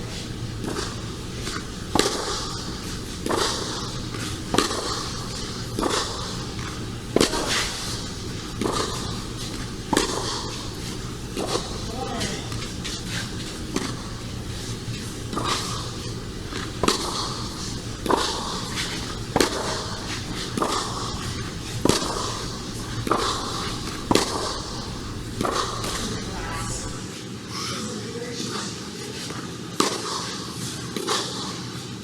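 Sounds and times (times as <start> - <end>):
tennis ball hit by rackets: 0.0 - 27.1.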